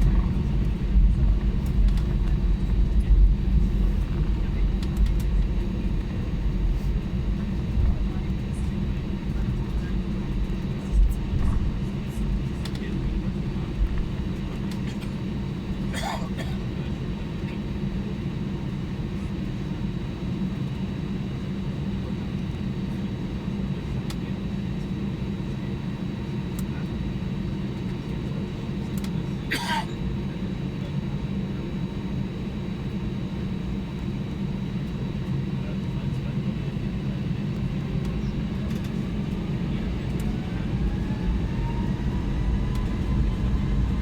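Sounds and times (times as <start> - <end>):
airplane cabin hum: 0.0 - 44.0.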